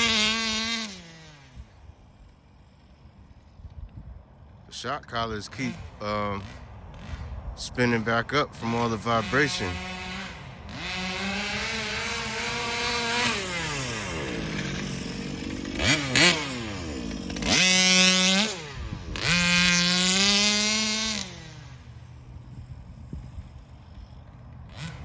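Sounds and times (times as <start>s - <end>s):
two-stroke engine revving: 0.0s - 2.0s, 5.2s - 25.0s.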